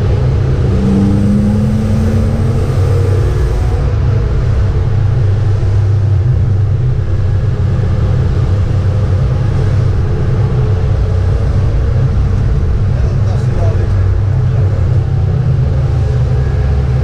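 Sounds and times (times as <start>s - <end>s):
car engine running hard: 0.0s - 17.0s
road and wind noise: 0.0s - 17.0s.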